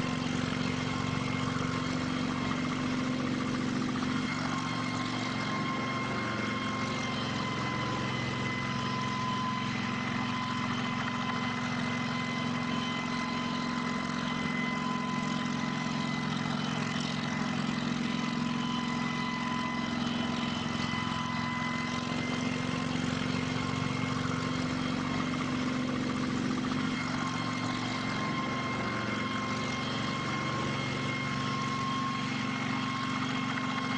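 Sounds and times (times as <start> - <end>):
helicopter engines running: 0.0 - 33.9
steady whine: 0.0 - 33.9.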